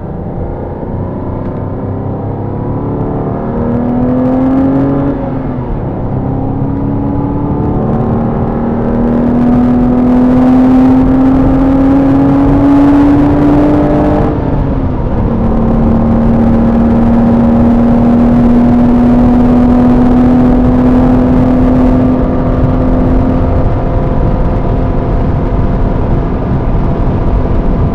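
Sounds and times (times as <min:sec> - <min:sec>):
car engine from inside: 0:00.0 - 0:27.9.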